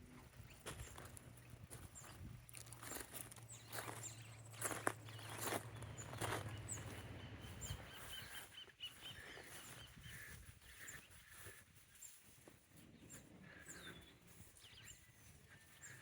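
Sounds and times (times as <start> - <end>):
footsteps through vegetation: 0.0 - 16.0
birds chirping and whistling: 0.4 - 16.0.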